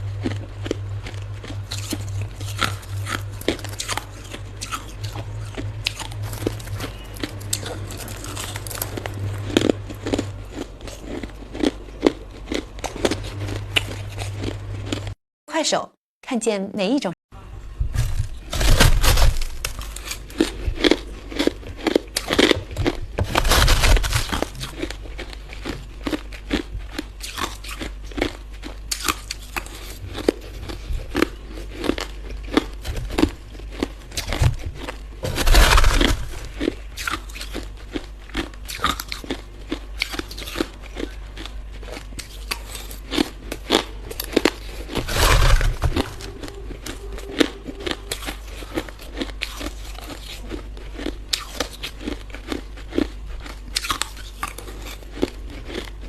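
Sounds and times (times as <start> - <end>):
ice being chewed: 0.0 - 15.2, 18.0 - 56.0.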